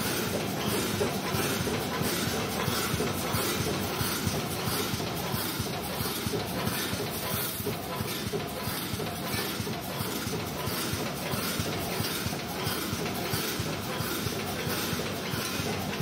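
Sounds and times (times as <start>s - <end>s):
welding machine clattering: 0.0s - 16.0s.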